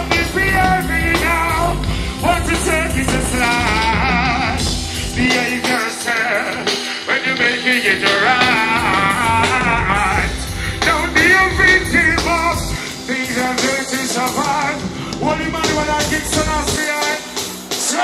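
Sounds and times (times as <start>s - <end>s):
live reggae band playing: 0.0s - 18.0s.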